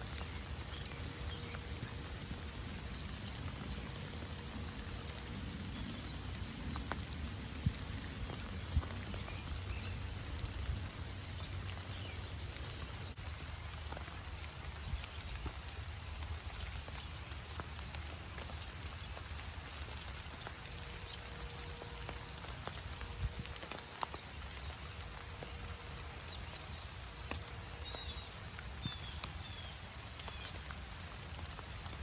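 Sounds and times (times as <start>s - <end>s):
raindrops ticking: 0.0s - 32.0s
steady rain falling: 0.0s - 32.0s.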